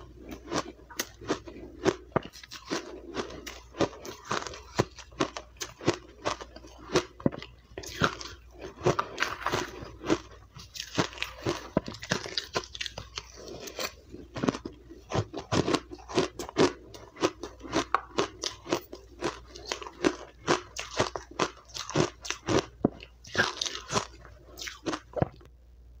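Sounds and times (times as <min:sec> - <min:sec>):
chewing crunchy ice: 0:00.0 - 0:25.5.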